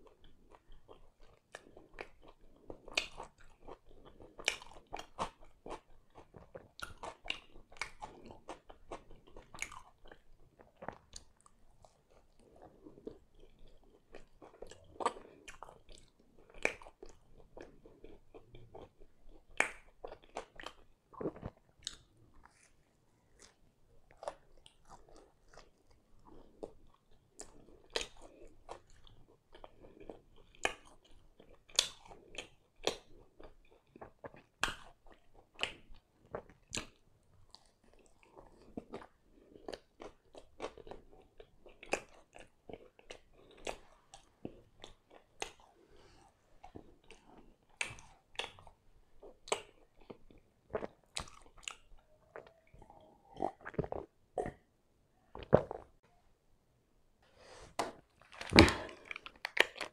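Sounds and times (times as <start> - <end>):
chewing with mouth clicks: 0.0 - 54.6, 58.2 - 59.9.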